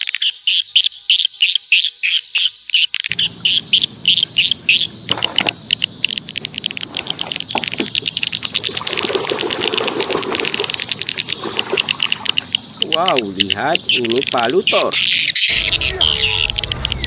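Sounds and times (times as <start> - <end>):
birds twittering: 0.2 - 17.0.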